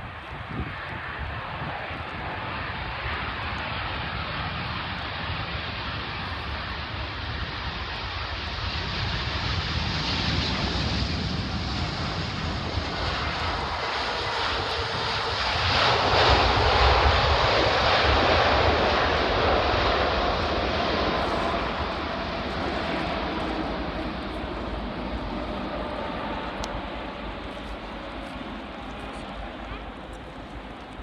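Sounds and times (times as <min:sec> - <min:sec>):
jet airliner passing: 0:00.0 - 0:31.0.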